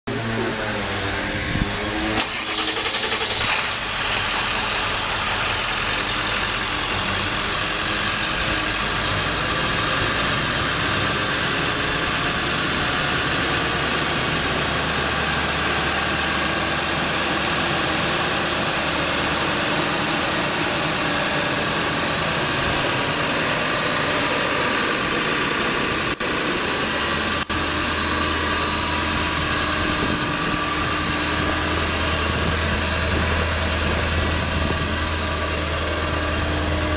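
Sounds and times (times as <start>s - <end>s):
diesel engine idling: 0.1s - 36.9s.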